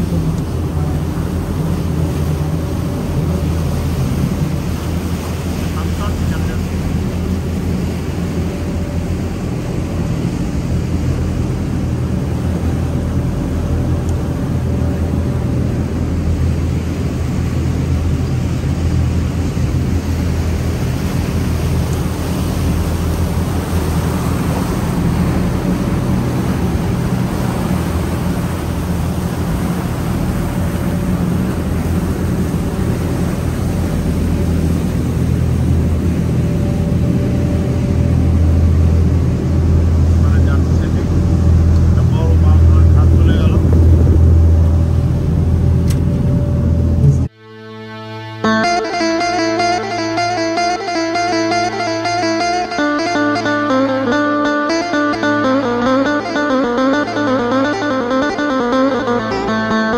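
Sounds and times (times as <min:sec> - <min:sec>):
rushing water wash: 0:00.0 - 0:47.3, 0:48.4 - 0:59.9
boat engines droning: 0:00.0 - 0:59.9.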